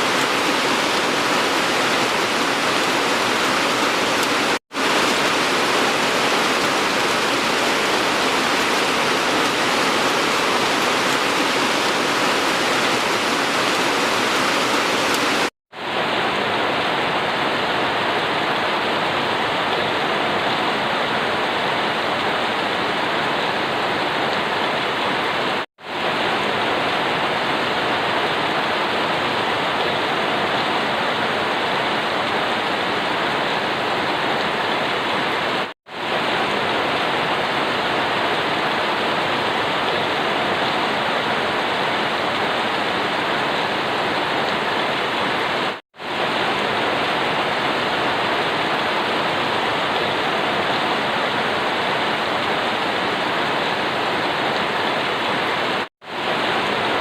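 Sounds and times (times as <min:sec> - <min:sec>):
dense rainfall hiss: 0:00.0 - 0:57.0.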